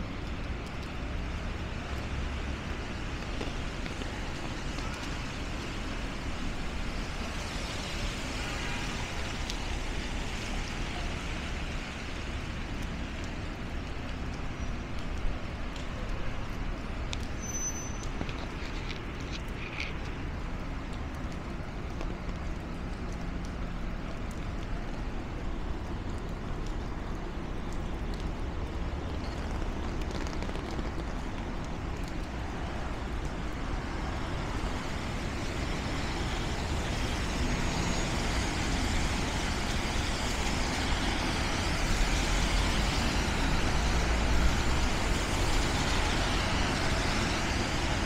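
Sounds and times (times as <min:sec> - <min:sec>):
vehicles passing on wet road: 0:00.0 - 0:48.0.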